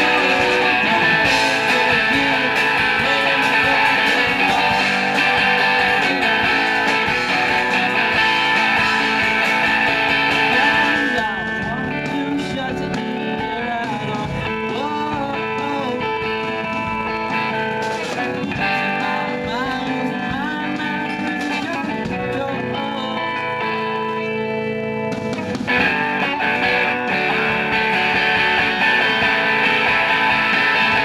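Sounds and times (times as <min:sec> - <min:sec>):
live rock band playing: 0:00.0 - 0:31.0
sliding guitar notes: 0:00.0 - 0:31.0.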